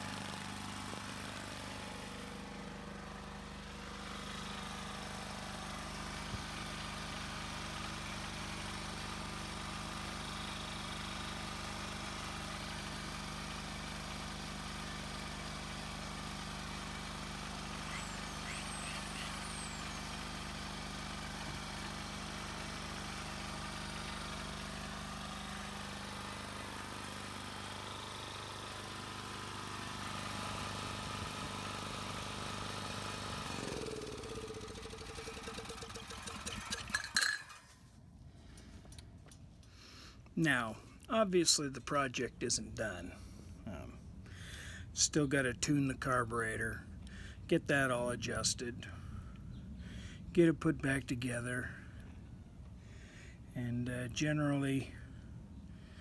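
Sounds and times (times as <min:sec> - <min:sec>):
generator engine running: 0:00.0 - 0:53.8.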